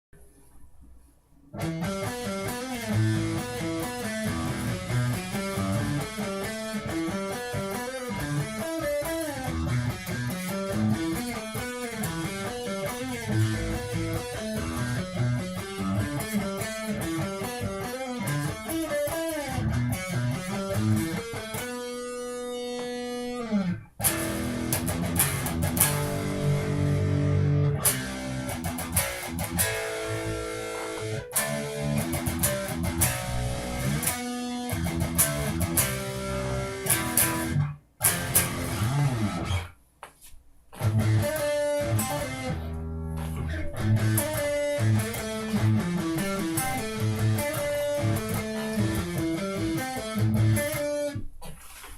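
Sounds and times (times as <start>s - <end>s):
distorted electric guitar riffs: 1.5s - 39.8s, 40.8s - 51.6s.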